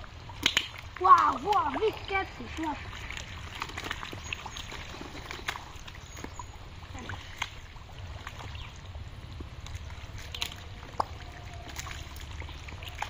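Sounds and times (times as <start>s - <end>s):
mud splats: 0.0s - 13.0s
wet mud squelching: 0.0s - 13.0s.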